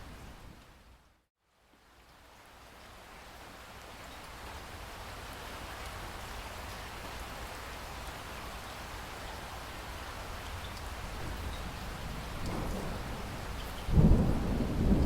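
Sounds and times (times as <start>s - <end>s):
heavy rain falling: 2.5s - 15.0s.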